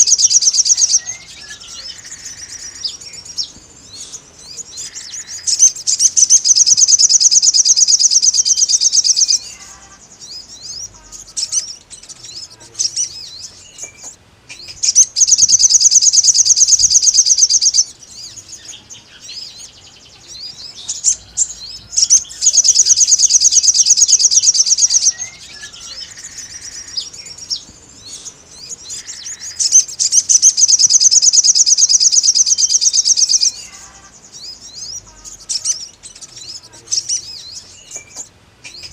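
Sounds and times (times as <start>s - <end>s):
bird trilling song: 0.0s - 38.9s
soft bird chirps: 0.0s - 38.9s.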